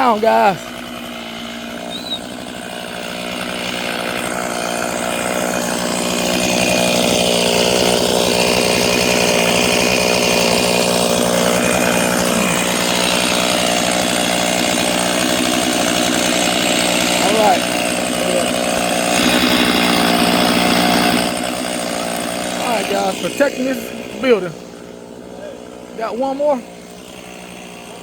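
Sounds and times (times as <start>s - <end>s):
chainsaw running at high speed: 0.0s - 28.0s.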